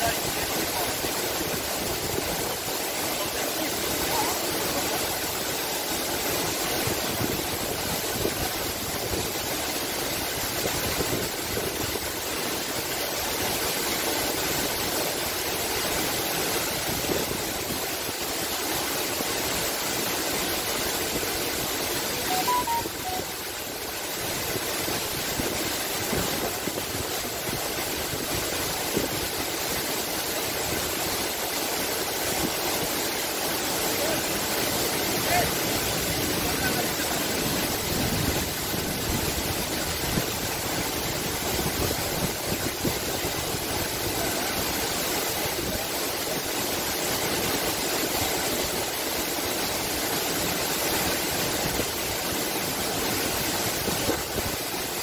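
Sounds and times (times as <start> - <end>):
waterfalls rushing into pool: 0.0 - 55.0.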